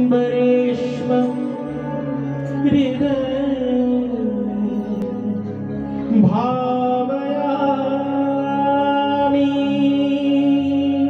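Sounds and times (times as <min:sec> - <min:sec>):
man singing into microphone: 0:00.0 - 0:11.0.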